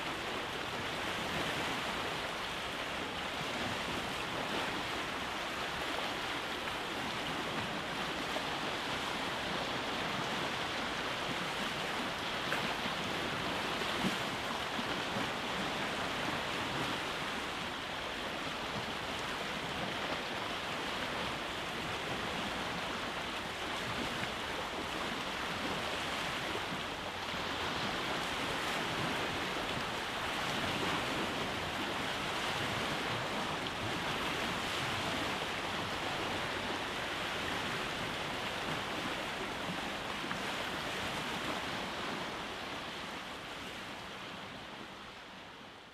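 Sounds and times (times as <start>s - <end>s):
sea waves on rocky shore: 0.0s - 45.4s.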